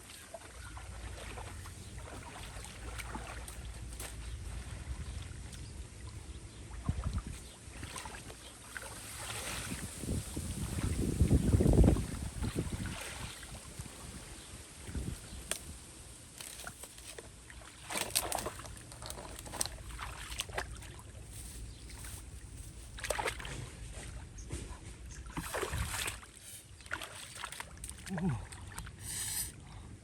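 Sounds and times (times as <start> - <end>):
water sloshing: 0.0 - 29.7.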